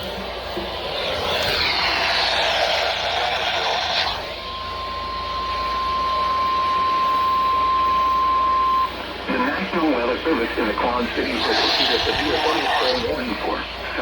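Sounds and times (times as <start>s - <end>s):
radio noise hiss: 0.0s - 14.0s.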